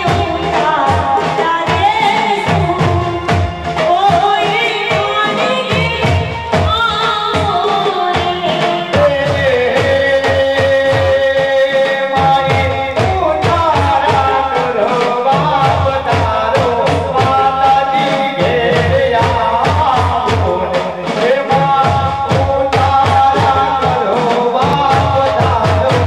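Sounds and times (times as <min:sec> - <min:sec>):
person singing: 0:00.0 - 0:26.0
quick drum beat: 0:00.0 - 0:26.0.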